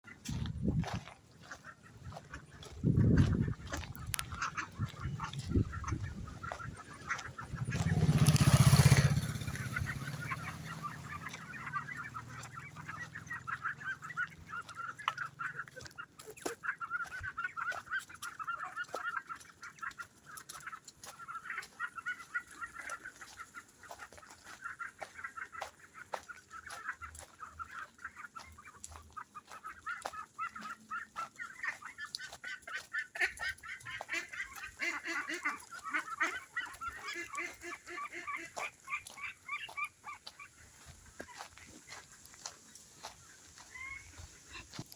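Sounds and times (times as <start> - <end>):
flock of ducks calling: 0.0 - 44.9.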